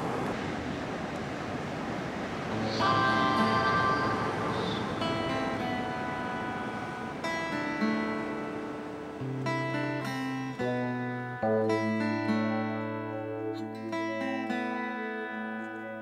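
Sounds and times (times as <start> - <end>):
acoustic guitar plucking: 2.6 - 16.0.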